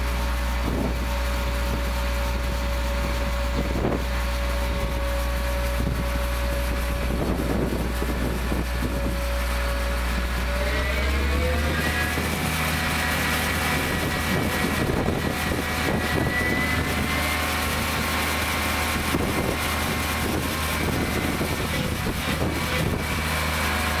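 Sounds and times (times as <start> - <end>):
engine droning with high whine: 0.0 - 24.0.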